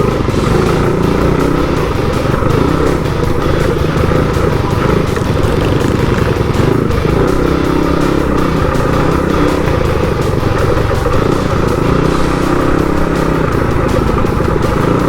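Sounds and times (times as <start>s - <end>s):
minibike engine at high revs: 0.0s - 15.0s.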